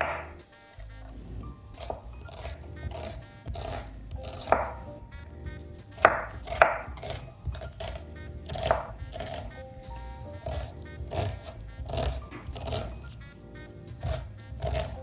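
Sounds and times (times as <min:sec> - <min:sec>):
knife chopping on cutting board: 0:00.0 - 0:00.4, 0:01.1 - 0:04.9, 0:05.5 - 0:15.0
soft background music: 0:00.0 - 0:15.0.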